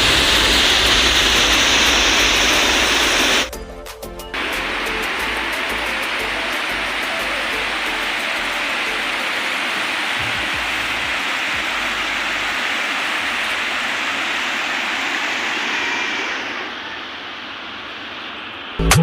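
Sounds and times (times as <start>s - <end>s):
waterfall rushing: 0.0s - 3.5s, 4.3s - 18.8s.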